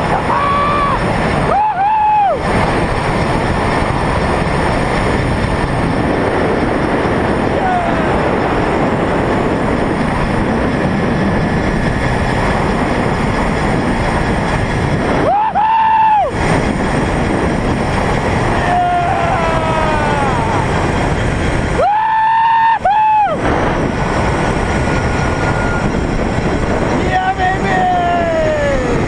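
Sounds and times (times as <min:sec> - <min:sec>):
trolley running on steel cable: 0:00.0 - 0:29.0
wind rushing over microphone: 0:00.0 - 0:29.0.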